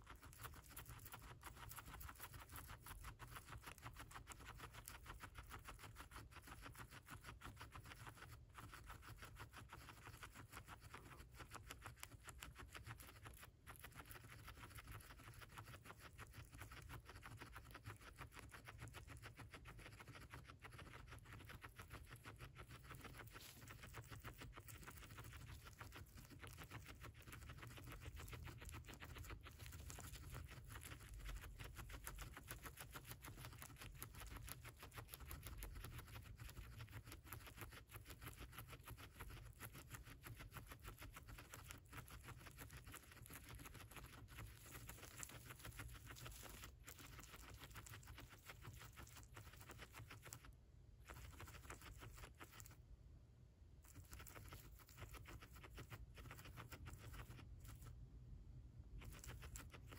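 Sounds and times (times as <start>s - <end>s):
guinea pig chewing: 0.0s - 59.9s.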